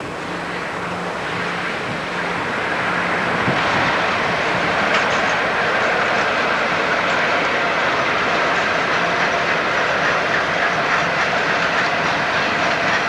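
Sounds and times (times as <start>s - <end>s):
diesel locomotive engine hum: 0.0s - 13.0s
train wheels rumbling on track: 0.0s - 13.0s.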